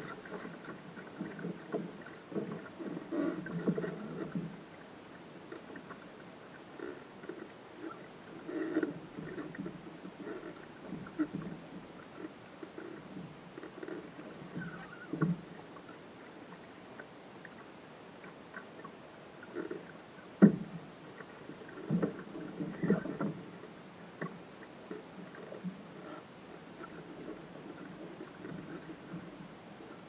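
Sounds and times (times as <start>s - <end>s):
waves slapping boat hull: 0.0s - 30.0s.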